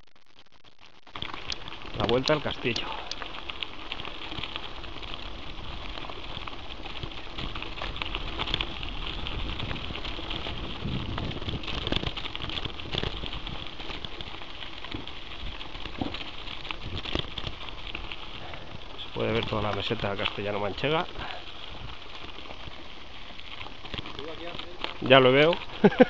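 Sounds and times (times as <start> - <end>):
bike tyres crackling on gravel: 0.0 - 26.0
bike rattling: 0.8 - 26.0.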